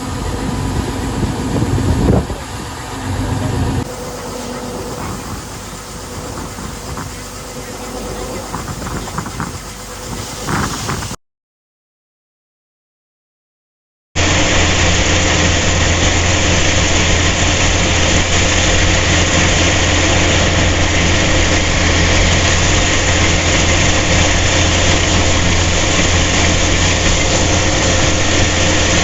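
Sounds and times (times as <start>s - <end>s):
harvesting machine engine running: 0.0s - 11.2s, 14.2s - 29.0s.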